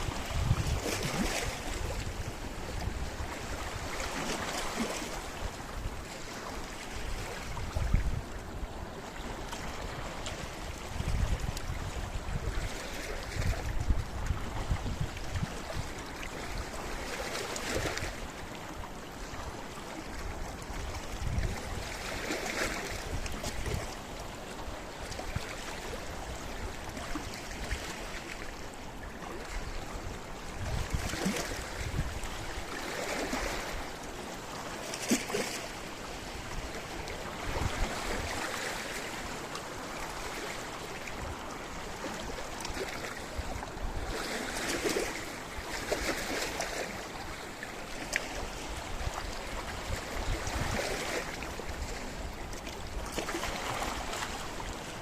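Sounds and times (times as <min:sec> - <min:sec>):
sea waves on rocky shore: 0:00.0 - 0:55.0.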